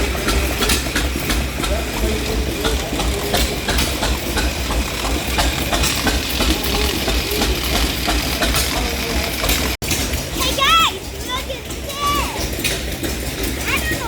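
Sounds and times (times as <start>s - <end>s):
engine idling: 0.0s - 14.0s
outdoor background noise: 0.0s - 14.0s.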